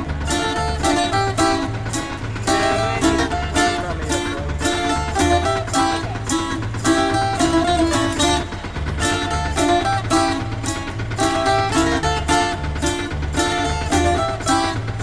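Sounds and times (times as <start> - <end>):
strummed string instrument music: 0.0 - 15.0.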